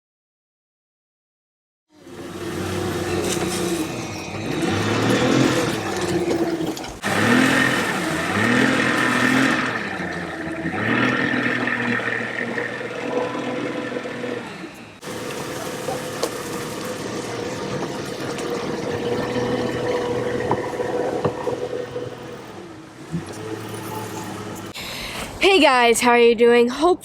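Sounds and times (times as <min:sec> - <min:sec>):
engine revving up and down: 0:01.9 - 0:24.8.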